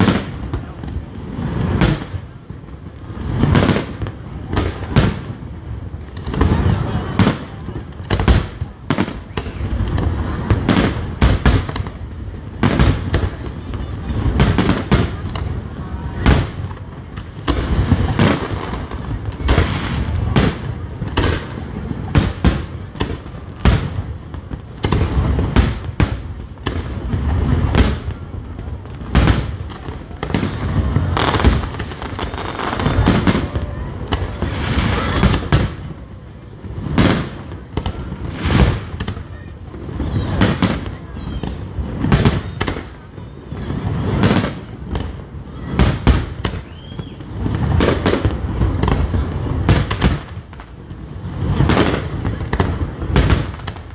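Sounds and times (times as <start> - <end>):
fireworks bangs: 0.0 - 53.9.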